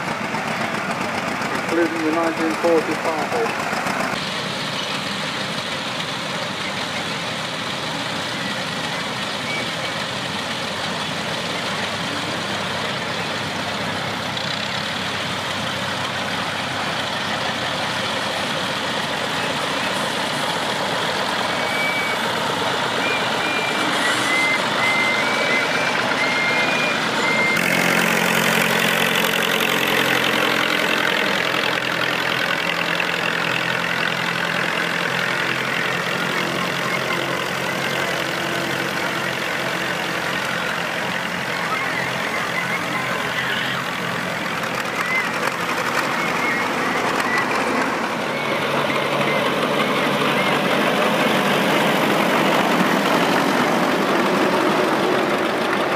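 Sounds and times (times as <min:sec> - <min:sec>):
close tractor engine running: 0:00.0 - 0:55.9
tractor engines idling: 0:00.0 - 0:55.9.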